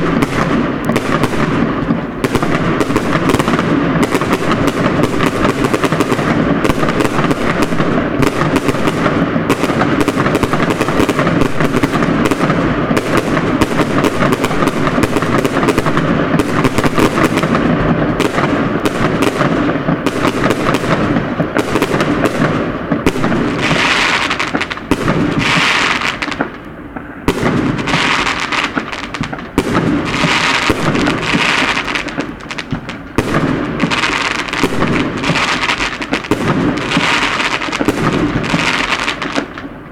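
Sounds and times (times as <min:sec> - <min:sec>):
crackling hiss: 0:00.0 - 0:39.9
fireworks bangs and crackles: 0:00.0 - 0:39.9.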